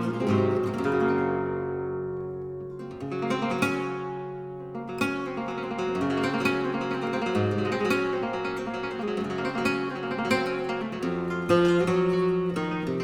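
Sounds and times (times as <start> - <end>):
plucked acoustic guitar music: 0.0 - 13.0.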